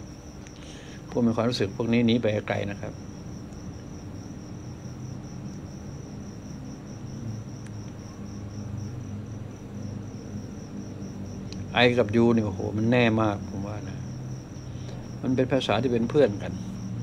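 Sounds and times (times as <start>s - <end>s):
insect trilling: 0.0s - 17.0s
low hum: 0.0s - 17.0s.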